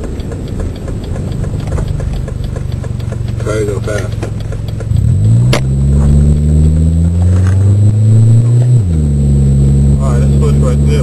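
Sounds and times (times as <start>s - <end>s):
sharp click: 0.0s - 9.0s
car engine accelerating: 0.0s - 11.0s.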